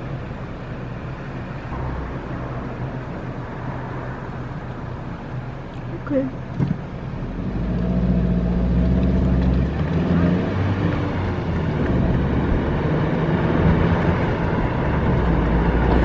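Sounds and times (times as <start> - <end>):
car engine from inside cabin: 0.0 - 16.0.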